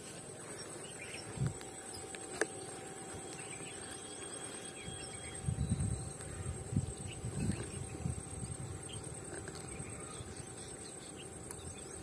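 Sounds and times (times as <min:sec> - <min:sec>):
high-pitched insect buzz: 0:00.0 - 0:12.0.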